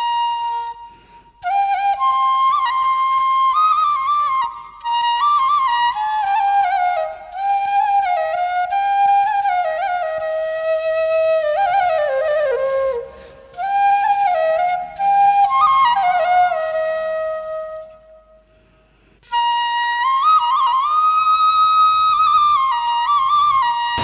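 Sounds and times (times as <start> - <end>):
flute melody: 0.0 - 18.5, 19.2 - 24.0.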